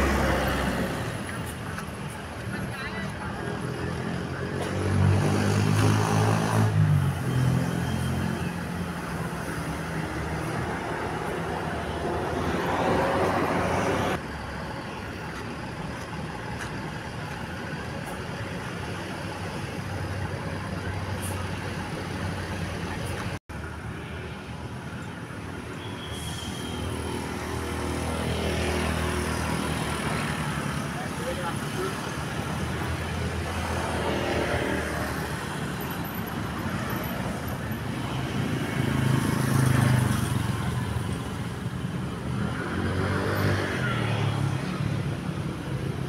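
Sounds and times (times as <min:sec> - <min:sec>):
road traffic noise: 0:00.0 - 0:46.0.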